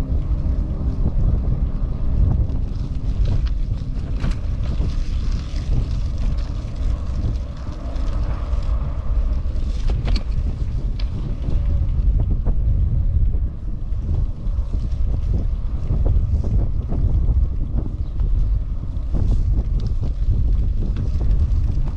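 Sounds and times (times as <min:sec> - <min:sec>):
wind buffeting microphone: 0:00.0 - 0:21.9
bicycle clicks and rattles: 0:02.2 - 0:21.9.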